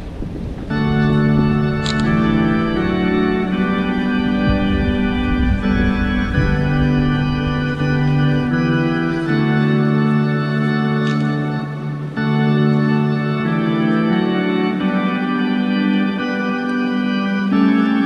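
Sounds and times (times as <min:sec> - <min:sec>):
organ chorale with held chords: 0:00.0 - 0:18.0.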